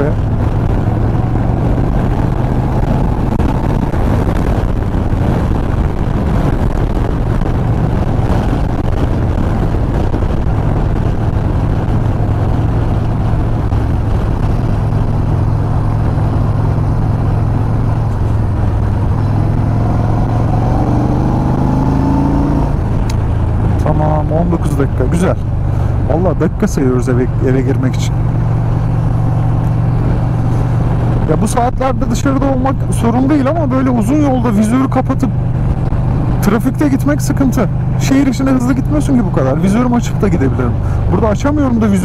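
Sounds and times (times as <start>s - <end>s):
motorcycle engine running: 0.0s - 42.0s
wind rush on microphone: 0.0s - 42.0s.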